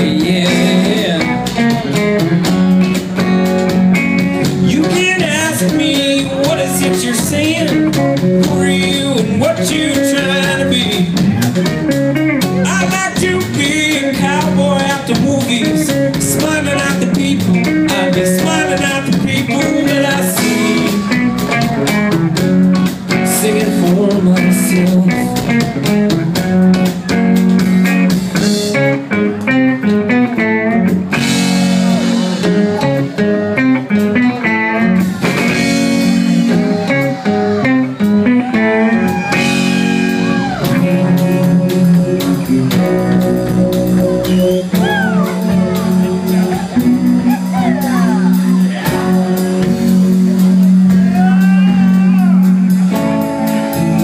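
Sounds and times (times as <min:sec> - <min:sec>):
electric guitar lead lines: 0:00.0 - 0:54.0
live rock band playing: 0:00.0 - 0:54.0.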